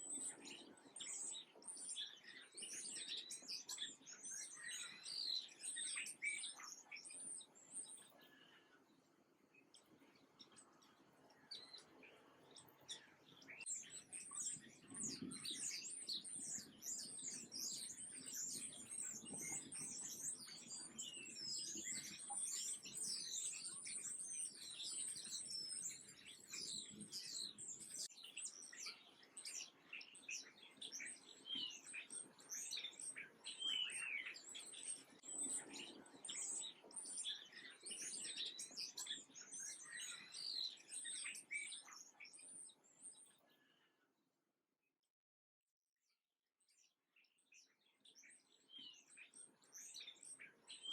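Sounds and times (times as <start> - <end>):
small birds chirping and twittering: 0.0 - 44.3, 46.6 - 50.9.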